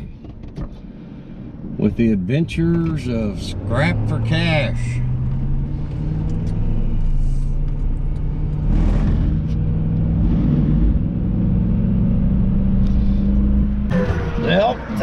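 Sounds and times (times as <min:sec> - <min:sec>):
rumbling road noise: 0:00.0 - 0:15.0
truck engine driving: 0:00.0 - 0:15.0.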